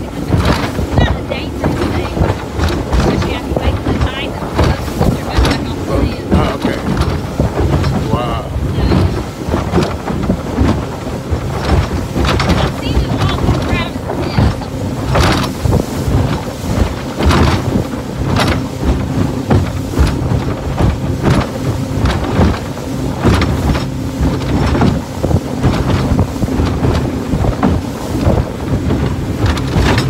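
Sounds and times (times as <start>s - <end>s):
boat engine running: 0.0s - 30.0s
water splashing: 0.0s - 30.0s
wind buffeting microphone: 0.0s - 30.0s.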